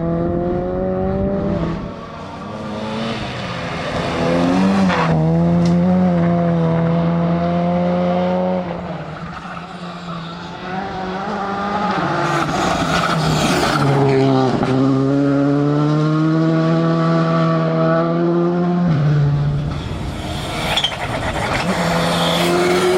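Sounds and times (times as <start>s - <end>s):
rally car engine at high revs: 0.0s - 22.9s.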